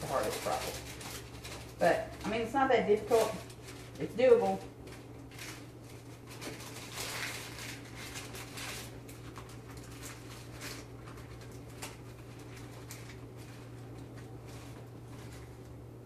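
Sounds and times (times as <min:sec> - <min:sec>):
parchment paper crinkling: 0:00.0 - 0:16.0
steady low hum: 0:00.0 - 0:16.0.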